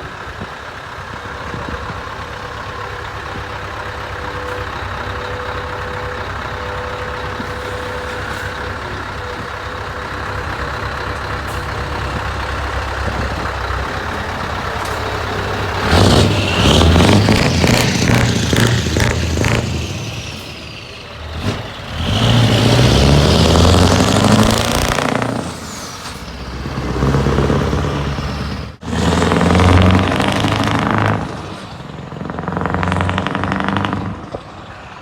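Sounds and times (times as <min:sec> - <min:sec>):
diesel engine revving: 0:00.0 - 0:35.0.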